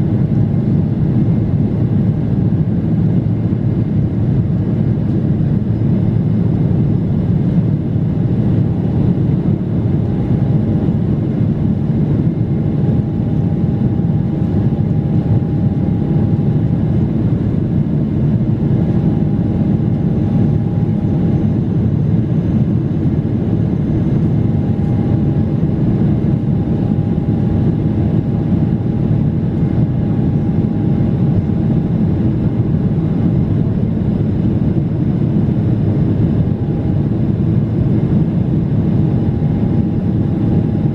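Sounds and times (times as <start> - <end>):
airplane cabin roar: 0.0 - 40.9.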